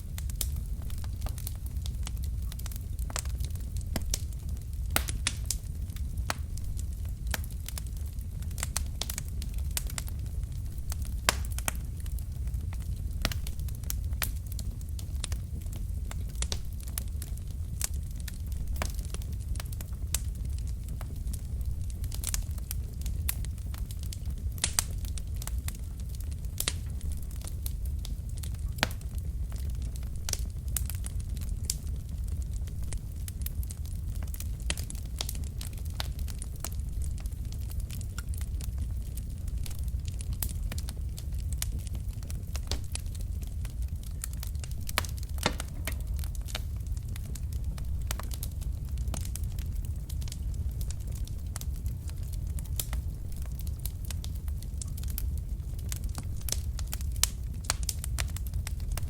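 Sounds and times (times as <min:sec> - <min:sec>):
logs crackling and popping: 0:00.0 - 0:59.0
low rumble of flames: 0:00.0 - 0:59.0.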